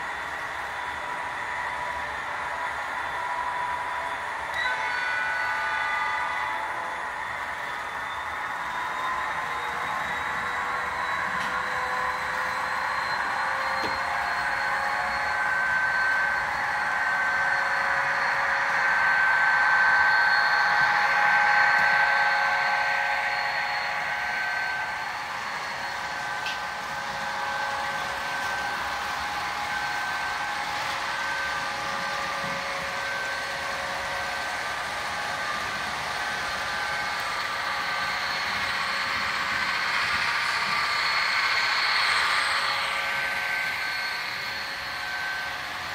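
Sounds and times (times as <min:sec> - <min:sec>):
model locomotive hum: 0:00.0 - 0:45.9
train cars rolling on track: 0:00.0 - 0:45.9
whining tones: 0:00.0 - 0:45.9.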